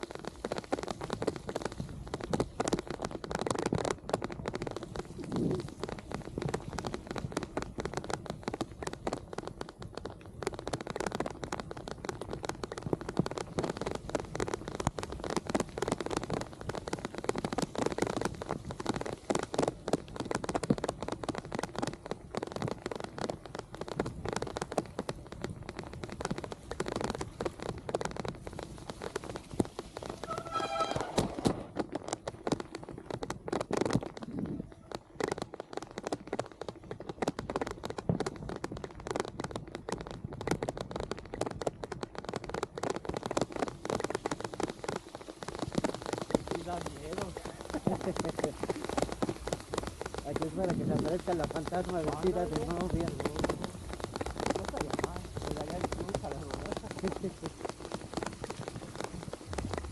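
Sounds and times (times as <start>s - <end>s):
rain hitting microphone: 0.0s - 59.9s.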